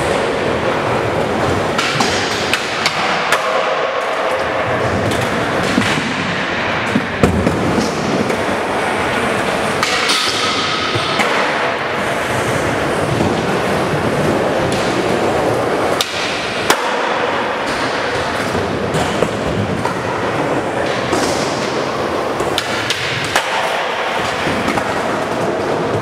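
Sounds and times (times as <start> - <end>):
skateboard clacks: 0.0 - 26.0
skateboard wheels rolling on concrete: 0.0 - 26.0.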